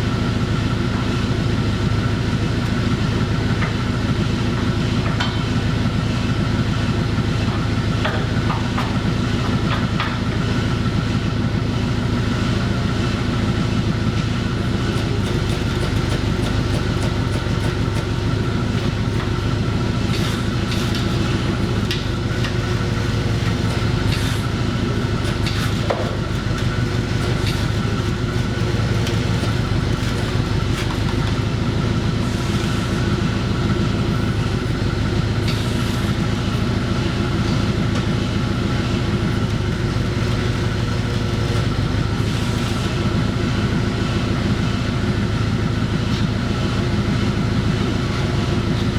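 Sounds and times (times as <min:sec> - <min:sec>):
forklift engine idling: 0:00.0 - 0:48.9.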